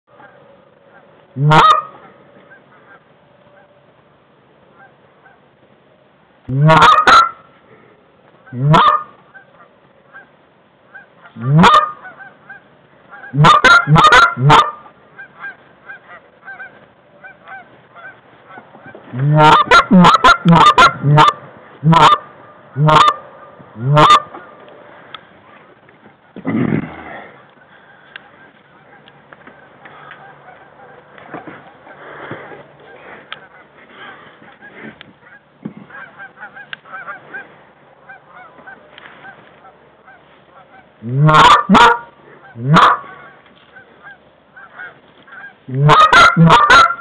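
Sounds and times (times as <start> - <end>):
goose honking and clucking: 0.1 - 3.8, 4.7 - 5.5, 6.5 - 7.6, 8.4 - 47.0
geese honking in background: 0.1 - 3.9, 4.7 - 5.6, 6.5 - 26.4, 27.1 - 47.0.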